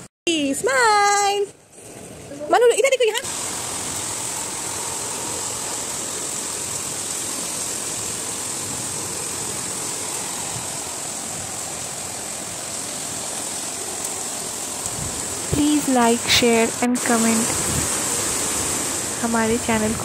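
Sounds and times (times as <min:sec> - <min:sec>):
rain falling: 0:00.6 - 0:20.0.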